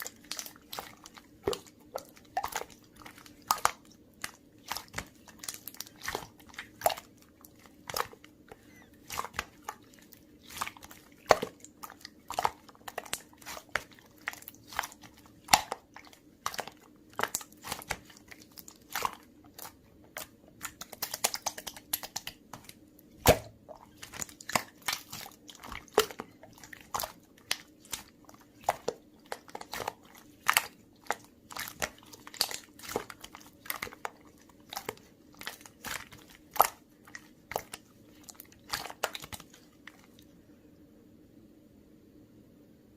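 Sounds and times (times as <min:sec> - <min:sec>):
slime squished by hand: 0:00.0 - 0:40.2
faint steady hum: 0:00.0 - 0:42.9.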